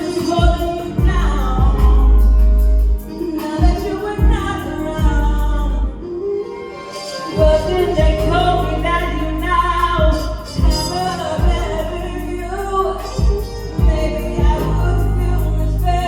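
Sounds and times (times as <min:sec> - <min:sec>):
woman singing: 0:00.0 - 0:16.0
deep sustained bass notes: 0:00.8 - 0:03.4, 0:04.0 - 0:06.0, 0:07.4 - 0:16.0.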